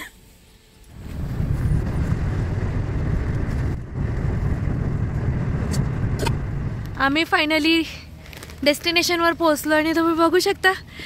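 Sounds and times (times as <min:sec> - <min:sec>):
car cabin rumble: 0:00.9 - 0:10.7.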